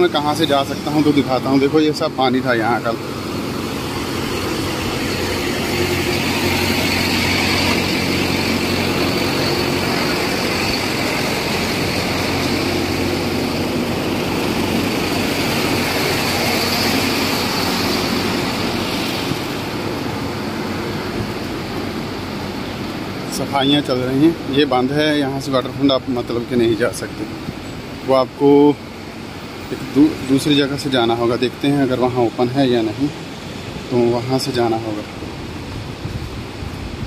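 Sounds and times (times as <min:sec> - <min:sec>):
truck engine idling: 0:00.0 - 0:30.7.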